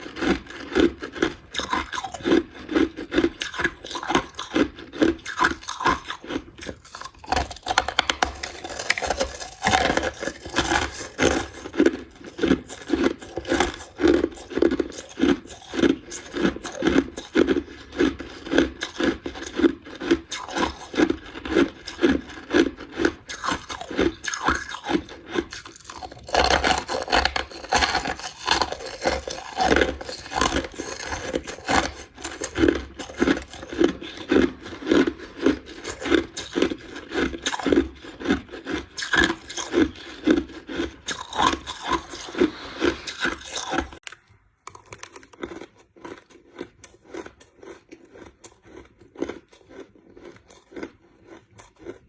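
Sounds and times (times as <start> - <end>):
ice being chewed: 0.0 - 52.0.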